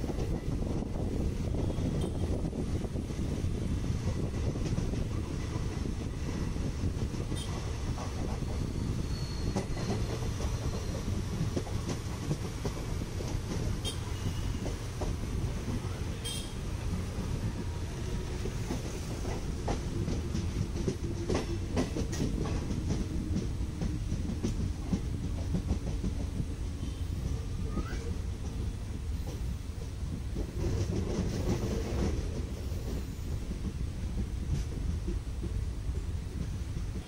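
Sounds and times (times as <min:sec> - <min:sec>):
train wheels rumbling on rails: 0:00.0 - 0:37.0
wheels clacking over rail joints: 0:04.0 - 0:37.0.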